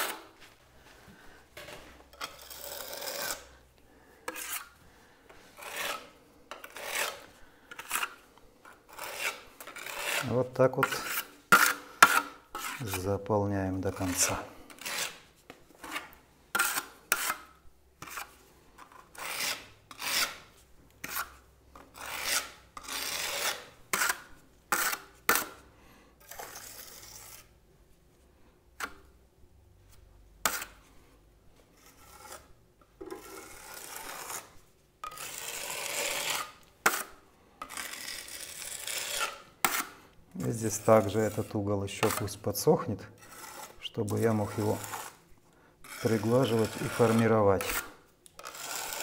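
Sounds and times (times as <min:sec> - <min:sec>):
trowel scraping plaster on wall: 0:00.0 - 0:00.4, 0:01.6 - 0:03.6, 0:04.2 - 0:13.2, 0:13.9 - 0:25.6, 0:26.2 - 0:27.5, 0:30.4 - 0:30.8, 0:31.7 - 0:49.0.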